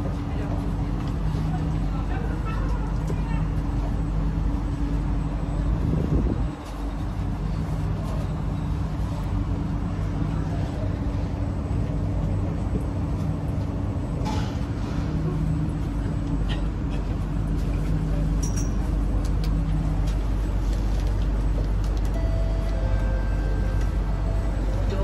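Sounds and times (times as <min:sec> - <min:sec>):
constant humming tones: 0:00.0 - 0:25.0
metro train carriage rumble: 0:00.0 - 0:25.0.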